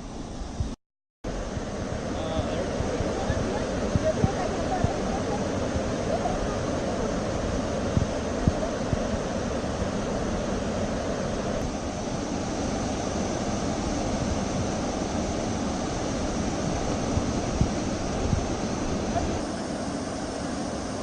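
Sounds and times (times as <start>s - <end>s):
wind buffeting microphone: 0.4s - 20.2s
waterfall rushing: 1.3s - 21.0s.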